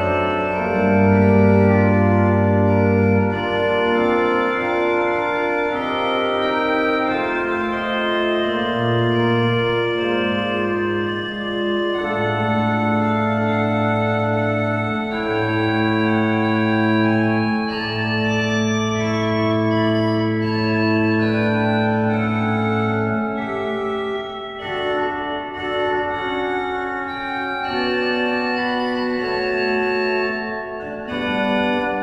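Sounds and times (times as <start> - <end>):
pipe organ slow chords: 0.0 - 32.0.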